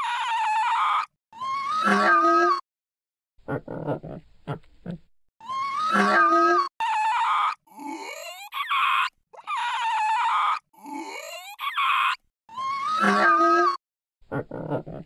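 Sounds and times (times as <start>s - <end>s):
animal cries: 0.0s - 2.6s, 5.4s - 15.0s.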